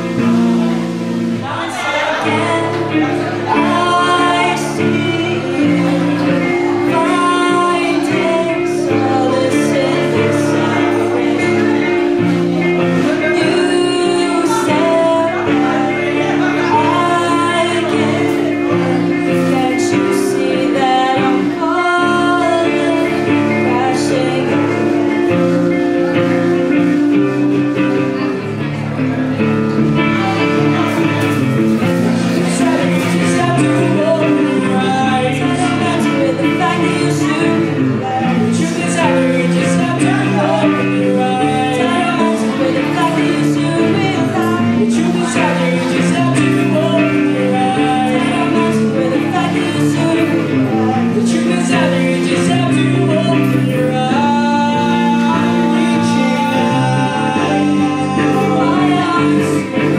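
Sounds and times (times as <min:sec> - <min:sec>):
acoustic guitar: 0:00.0 - 0:59.9
person singing: 0:00.0 - 0:59.9
second guitar: 0:00.0 - 0:59.9.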